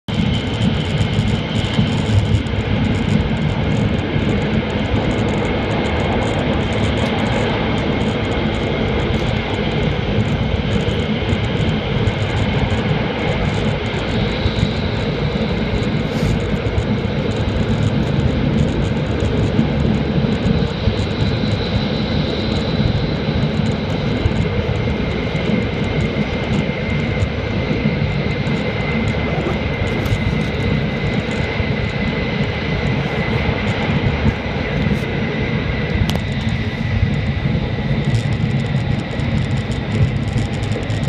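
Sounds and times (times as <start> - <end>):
train rumble of wheels and air: 0.1 - 41.0.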